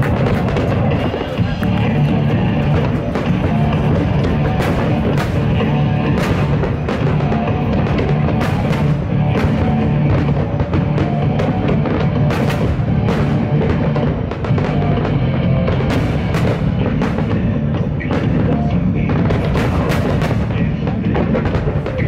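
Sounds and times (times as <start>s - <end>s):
loud music with heavy drums: 0.0s - 22.0s.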